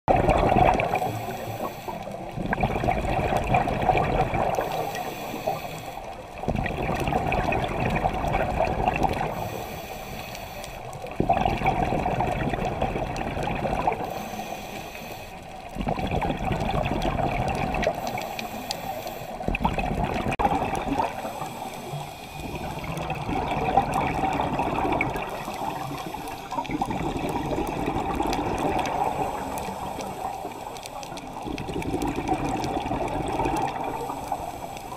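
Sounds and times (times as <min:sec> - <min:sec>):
underwater exhaled bubbles: 0:00.1 - 0:34.9
breaths through a regulator: 0:00.4 - 0:07.5, 0:08.9 - 0:12.4, 0:13.6 - 0:34.9.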